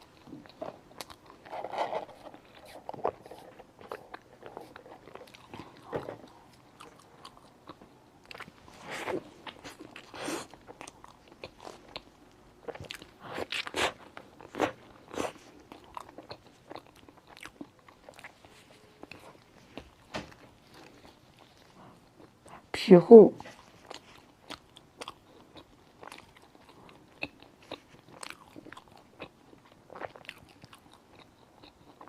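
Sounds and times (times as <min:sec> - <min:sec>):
wet chewing and mouth smacks: 0:00.0 - 0:22.6, 0:23.4 - 0:32.0.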